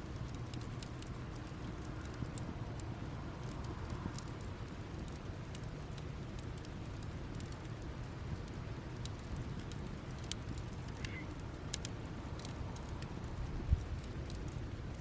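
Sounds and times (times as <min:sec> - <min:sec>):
campfire crackling and popping: 0:00.0 - 0:15.0
fire low rumble: 0:00.0 - 0:15.0.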